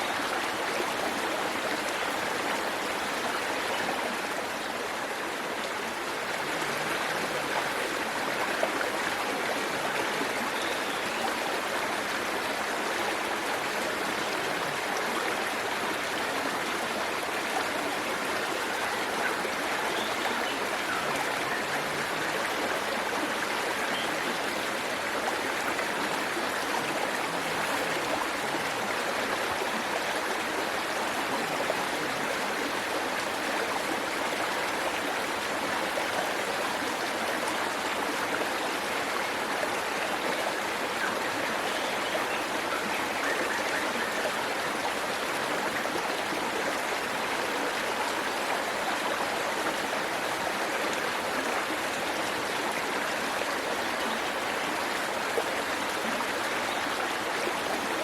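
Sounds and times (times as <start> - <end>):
waterfall water rushing and splashing: 0.0 - 58.0.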